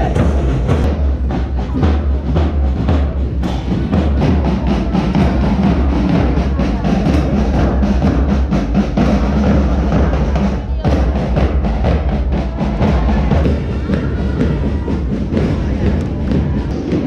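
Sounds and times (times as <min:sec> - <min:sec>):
marching band drums: 0:00.0 - 0:17.0.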